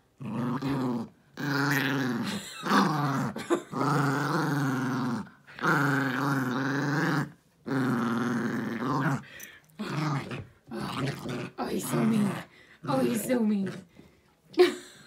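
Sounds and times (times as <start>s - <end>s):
small dog play-growling: 0.1s - 14.0s.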